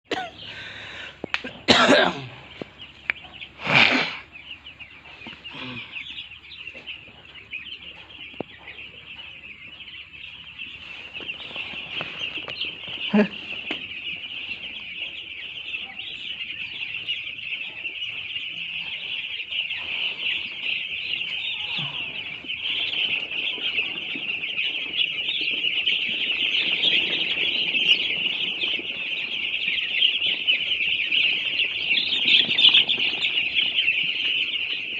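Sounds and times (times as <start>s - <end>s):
chicks peeping and chirping: 0.1s - 34.9s.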